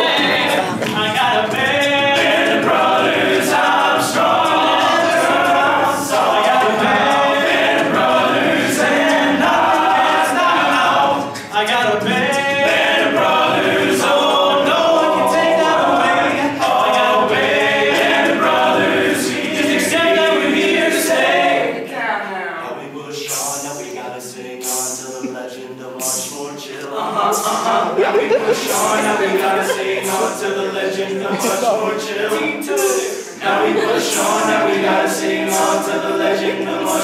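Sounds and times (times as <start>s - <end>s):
male group singing in harmony: 0.0s - 21.9s, 22.6s - 37.0s
sharp clicking beat: 0.1s - 21.2s, 23.3s - 25.4s, 26.0s - 37.0s.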